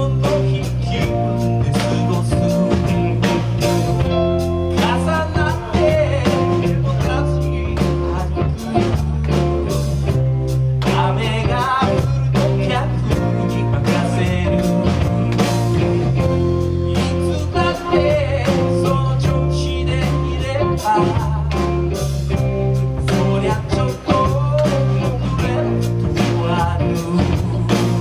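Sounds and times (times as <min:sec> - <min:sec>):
bass notes: 0:00.0 - 0:28.0
live band playing soul music: 0:00.0 - 0:28.0.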